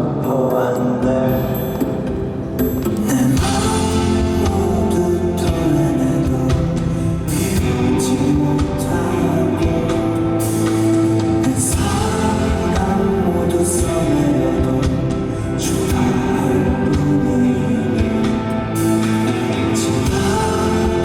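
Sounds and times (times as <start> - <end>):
rock band playing: 1.3 - 21.0.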